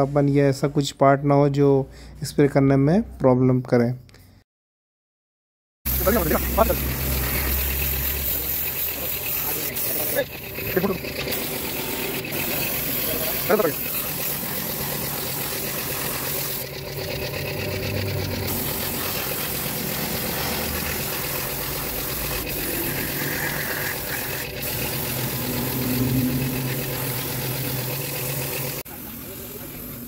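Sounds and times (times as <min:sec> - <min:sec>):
air compressor humming: 0:05.9 - 0:30.0
spray gun hissing: 0:05.9 - 0:30.0.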